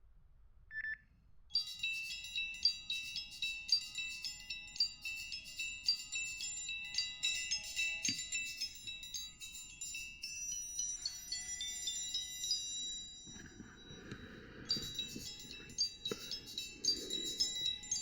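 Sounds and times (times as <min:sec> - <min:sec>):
chime-like phone ringtone: 0:01.6 - 0:18.0.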